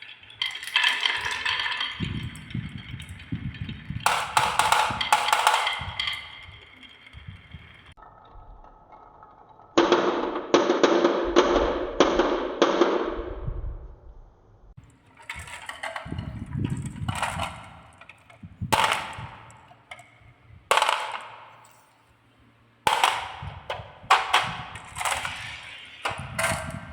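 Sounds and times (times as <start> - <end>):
marbles clacking on wooden track: 0.0 - 11.6, 14.8 - 22.0, 22.9 - 26.9.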